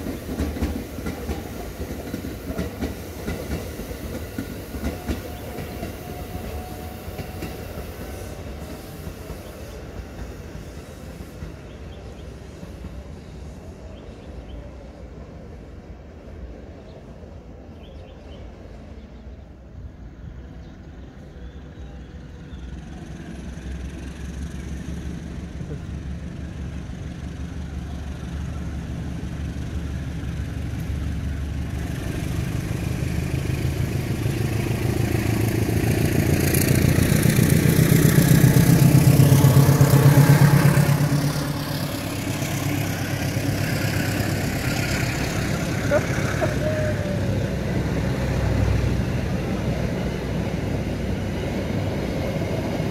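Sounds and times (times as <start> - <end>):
railcar passing: 0.0 - 52.9
train engine drone: 0.0 - 52.9
train wheels on rail: 0.0 - 52.9.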